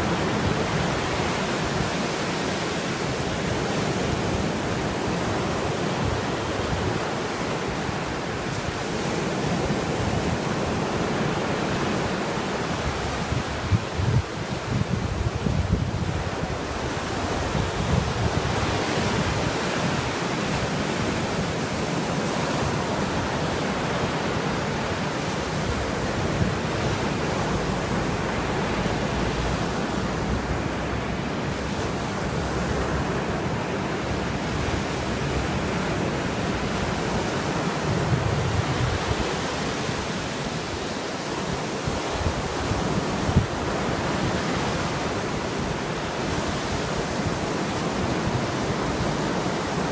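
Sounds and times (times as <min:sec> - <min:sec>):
waves washing onto shore: 0:00.0 - 0:49.9
wind buffeting microphone: 0:00.0 - 0:49.9.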